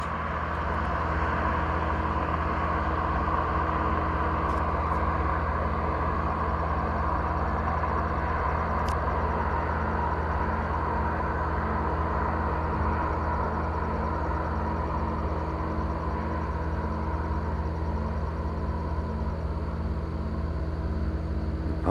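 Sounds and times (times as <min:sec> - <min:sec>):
low industrial drone: 0:00.0 - 0:21.9.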